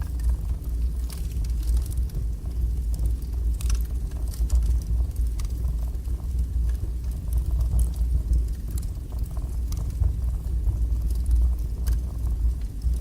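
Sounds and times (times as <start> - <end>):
fire burning in fireplace: 0.0 - 13.0.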